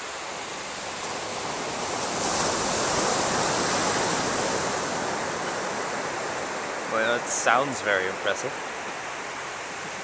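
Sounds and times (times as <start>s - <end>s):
ocean surf on beach: 0.0s - 10.0s.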